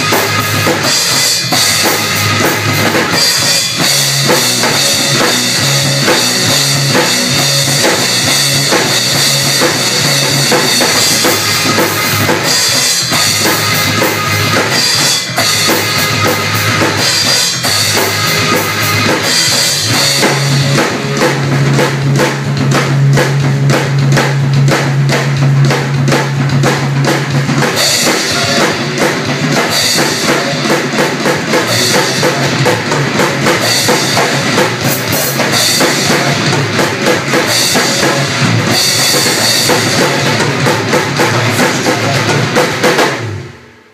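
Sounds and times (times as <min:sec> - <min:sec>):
drum kit played fast and hard: 0:00.0 - 0:43.9
rock music backing track: 0:00.0 - 0:43.9.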